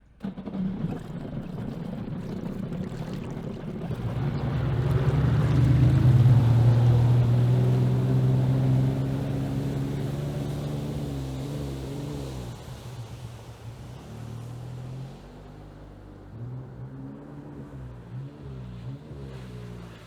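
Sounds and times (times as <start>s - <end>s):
jet ski engine running: 0.0s - 20.0s.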